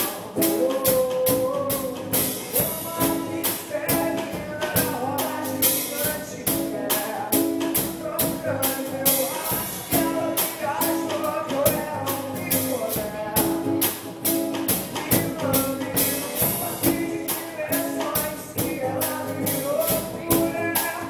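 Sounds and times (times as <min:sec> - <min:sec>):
band playing upbeat song: 0:00.0 - 0:21.0.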